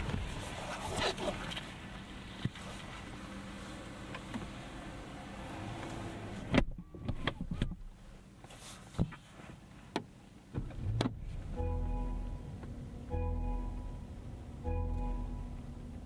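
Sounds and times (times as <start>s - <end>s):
outside noise: 0.0s - 16.0s.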